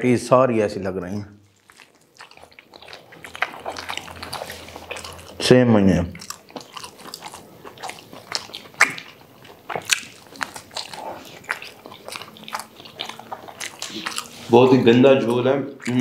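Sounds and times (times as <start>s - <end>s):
mouth smacks and clicks: 1.5s - 5.4s, 6.1s - 16.0s
people chewing and biting: 1.5s - 16.0s.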